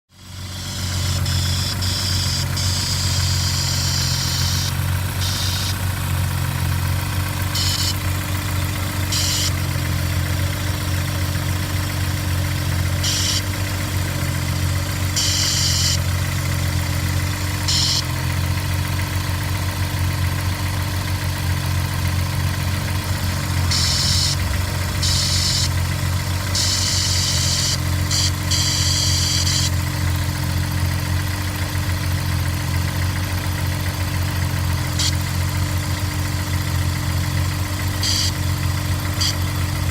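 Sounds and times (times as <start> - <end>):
car engine idling: 0.1 - 39.9
high noisy engine sound: 0.1 - 39.9.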